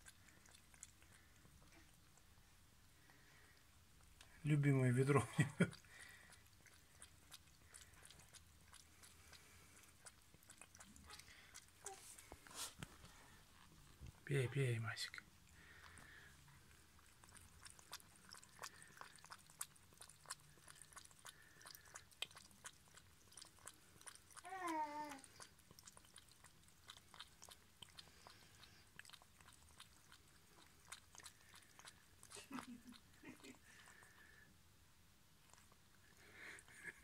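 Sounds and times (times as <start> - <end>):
cat lapping water: 0.0 - 34.6, 35.3 - 37.0.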